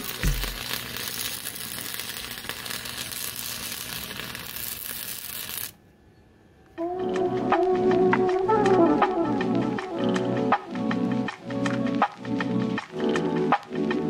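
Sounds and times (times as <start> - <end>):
arc welding crackling sizzle: 0.0 - 5.8, 7.2 - 14.0.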